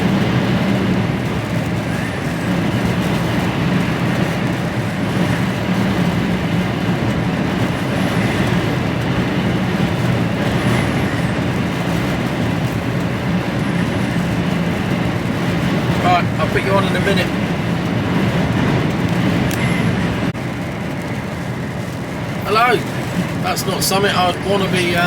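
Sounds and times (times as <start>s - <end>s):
truck engine drone: 0.0s - 25.0s
tyre and road noise: 0.0s - 25.0s.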